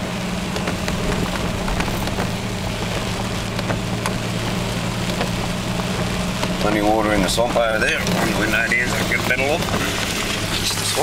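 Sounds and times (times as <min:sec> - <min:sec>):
rain on a vehicle: 0:00.0 - 0:11.0
vehicle engine running: 0:00.0 - 0:11.0
raindrop ticks: 0:00.5 - 0:11.0.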